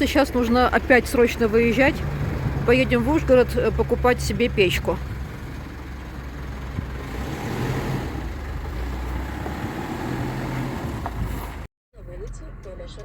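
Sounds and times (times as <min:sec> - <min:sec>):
tyre and road noise: 0:00.0 - 0:13.0
vehicle engine hum: 0:00.0 - 0:13.0.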